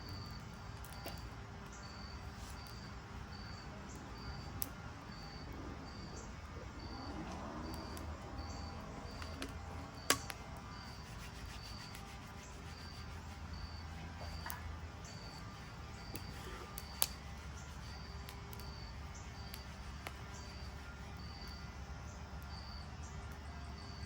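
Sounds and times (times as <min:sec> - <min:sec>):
insect chirping: 0:00.0 - 0:23.2
low steady hum: 0:00.0 - 0:24.0.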